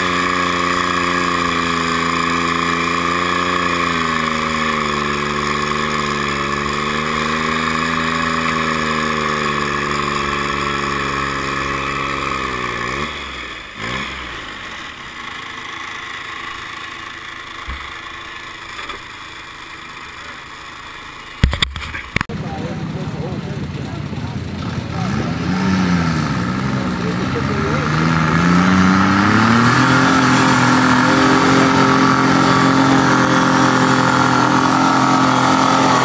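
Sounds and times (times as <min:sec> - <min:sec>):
diesel tractor engine running hard: 0:00.0 - 0:36.0.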